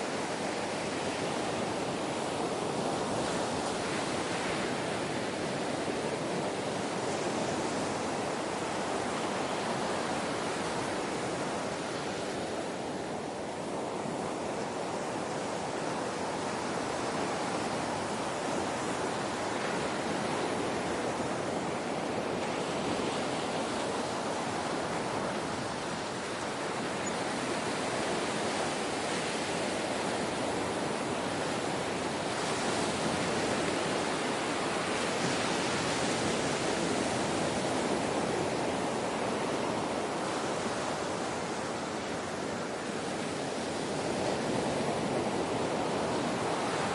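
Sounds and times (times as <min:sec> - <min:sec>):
ocean waves washing on shore: 0:00.0 - 0:46.9.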